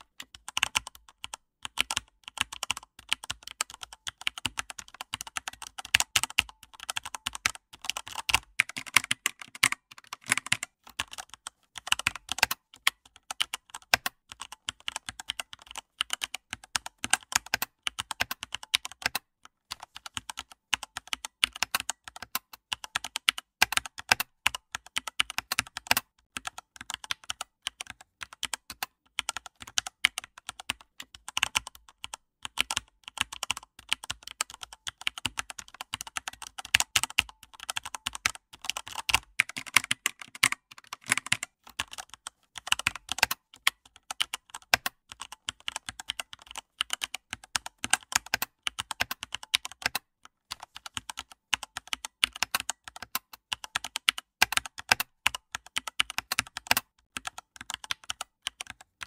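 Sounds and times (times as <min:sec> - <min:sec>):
keyboard typing: 0:00.0 - 0:59.0.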